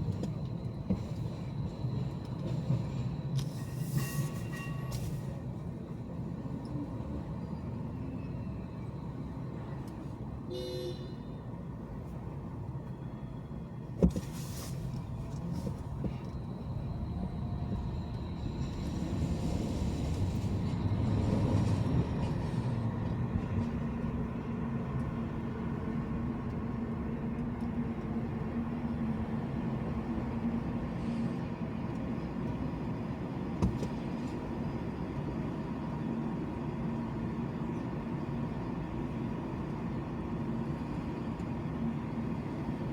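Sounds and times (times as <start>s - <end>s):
car road and engine noise: 0.0s - 42.9s.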